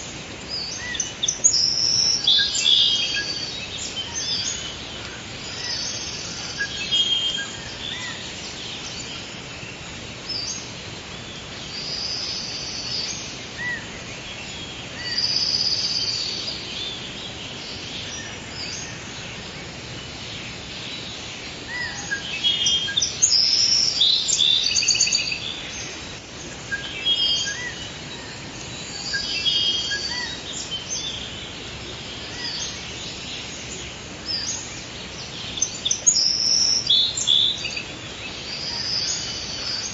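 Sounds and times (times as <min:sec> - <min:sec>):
birds chirping and trilling: 0:00.0 - 0:39.9
steady background hiss: 0:00.0 - 0:39.9.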